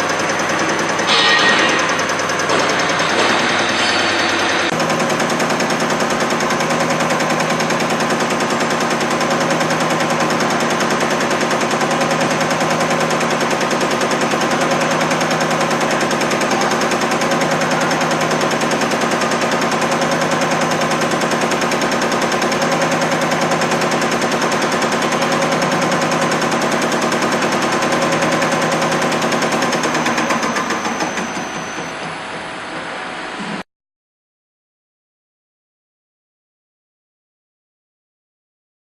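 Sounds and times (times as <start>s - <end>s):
machine drone: 0.0s - 33.7s.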